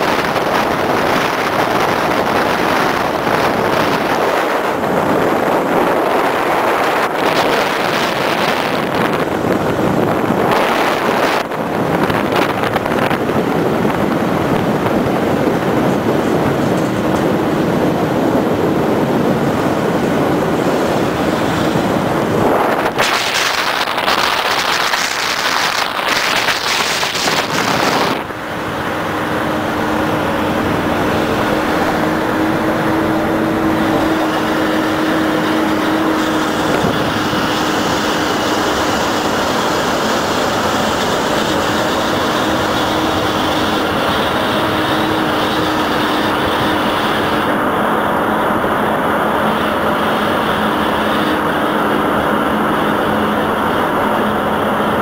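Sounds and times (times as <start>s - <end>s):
vehicle road noise and engine hum: 0.0s - 55.0s.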